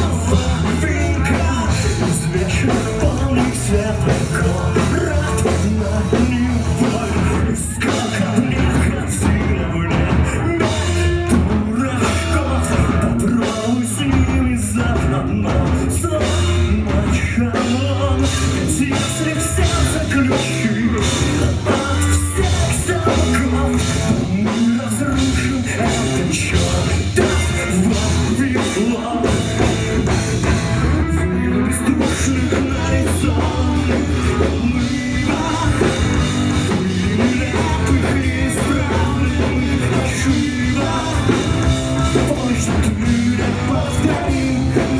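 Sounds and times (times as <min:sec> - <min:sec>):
drum kit: 0:00.0 - 0:44.9
electric guitar: 0:00.0 - 0:44.9
rock band playing live: 0:00.0 - 0:44.9.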